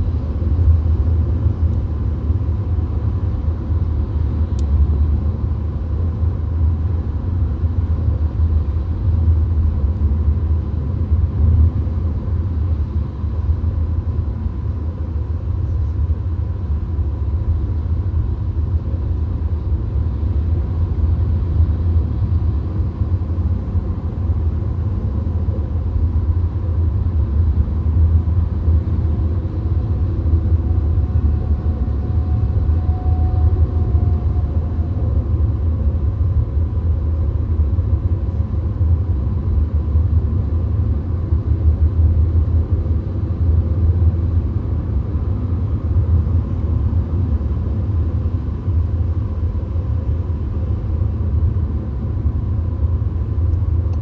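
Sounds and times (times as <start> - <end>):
car cabin road and engine drone: 0.0 - 54.0.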